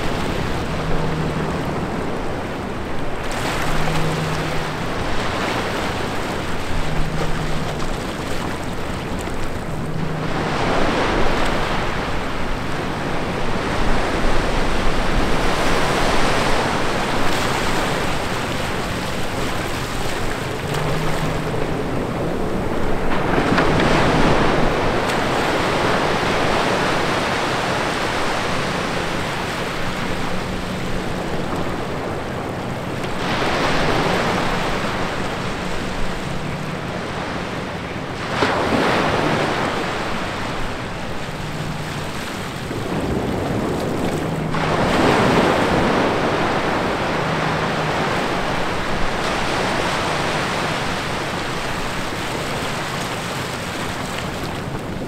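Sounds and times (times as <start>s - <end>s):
small waves breaking on sand: 0.0s - 55.0s.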